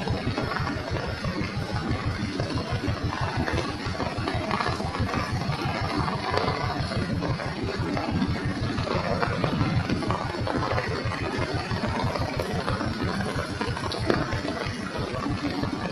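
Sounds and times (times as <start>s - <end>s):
rain hiss: 0.0s - 15.9s
rain pattering: 0.0s - 15.9s.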